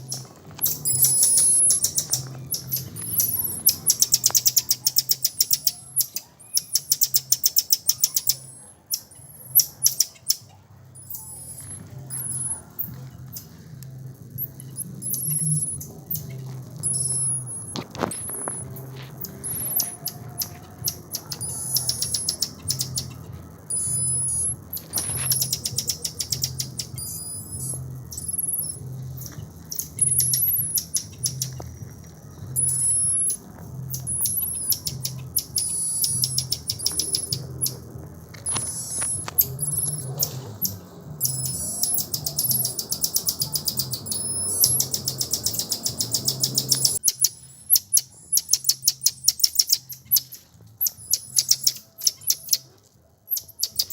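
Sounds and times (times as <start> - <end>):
birds chirping: 0.0 - 13.7, 14.4 - 31.7, 32.4 - 52.7
low pulsing hum: 0.0 - 53.0.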